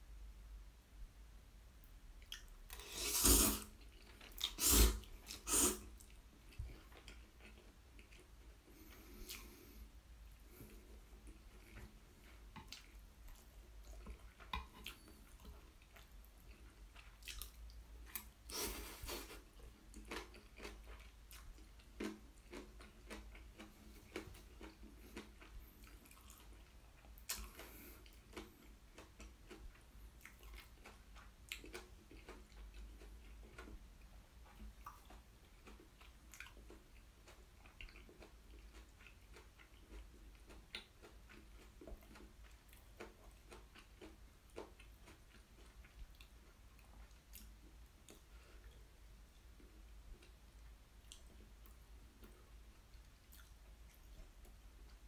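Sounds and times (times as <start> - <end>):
chewing with wet clicks and smacks: 2.2 - 2.8, 3.7 - 55.0.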